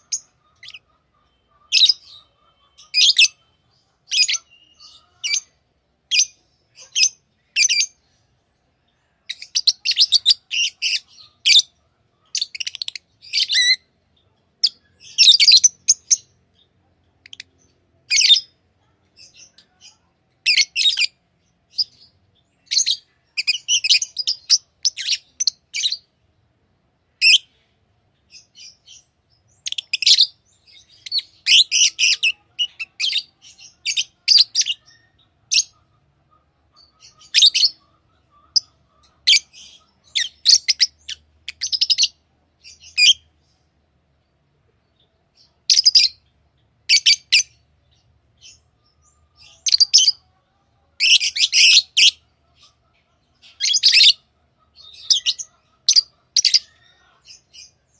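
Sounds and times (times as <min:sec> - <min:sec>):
lovebirds chirping: 0:00.0 - 0:57.9.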